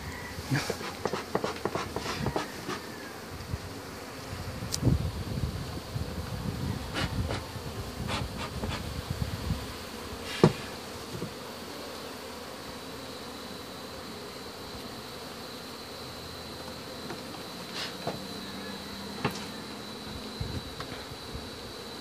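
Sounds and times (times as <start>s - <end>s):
honey bees buzzing: 0.0s - 22.0s.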